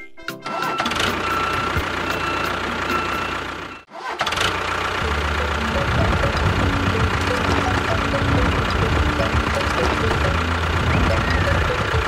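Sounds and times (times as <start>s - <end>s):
tractor engine running: 0.5s - 12.0s.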